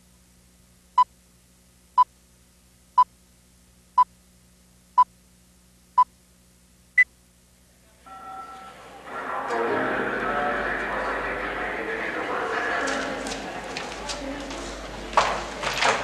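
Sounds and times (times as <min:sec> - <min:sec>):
faint hum: 0:00.0 - 0:15.6.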